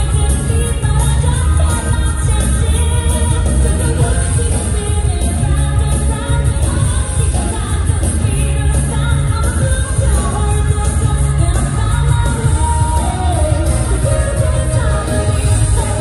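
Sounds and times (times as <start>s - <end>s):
pop dance music with vocals: 0.0s - 16.0s.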